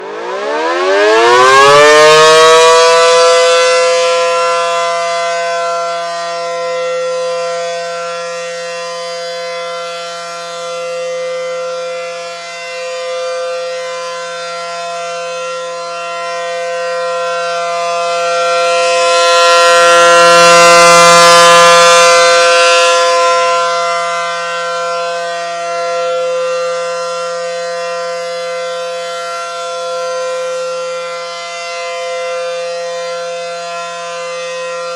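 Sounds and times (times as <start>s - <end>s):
tornado siren wailing: 0.0s - 34.9s.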